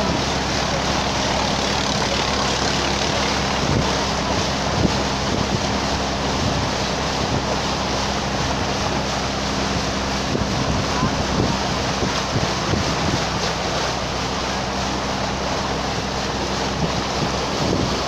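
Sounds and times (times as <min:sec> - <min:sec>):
boat engine running: 0:00.0 - 0:18.0
churning wake rushing: 0:00.0 - 0:18.0
wind buffeting microphone: 0:00.0 - 0:18.0.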